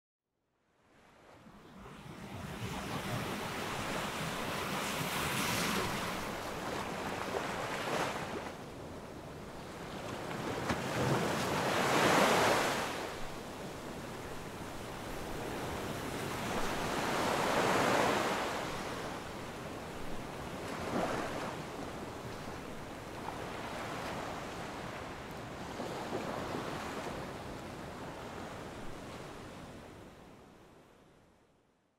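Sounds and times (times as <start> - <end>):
waves breaking on shore: 1.0 - 30.1
steady wind: 1.0 - 31.2.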